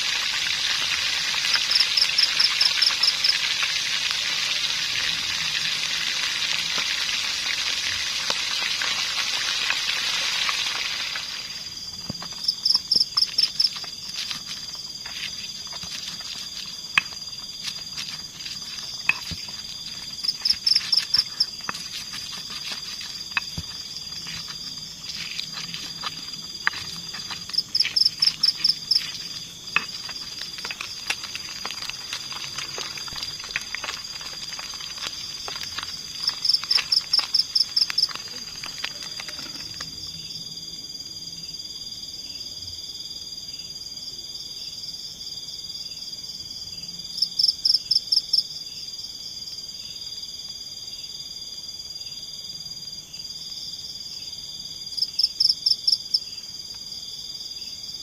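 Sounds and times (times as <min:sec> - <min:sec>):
rapid pulsed insect trill: 0:01.4 - 0:03.5, 0:10.6 - 0:58.0.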